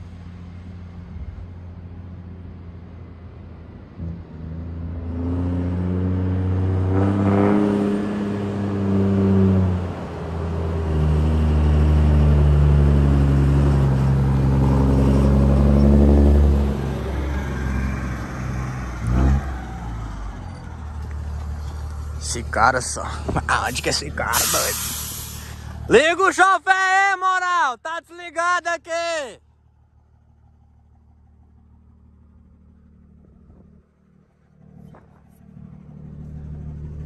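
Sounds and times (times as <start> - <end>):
truck diesel engine accelerating: 0.0 - 26.5, 29.5 - 37.0.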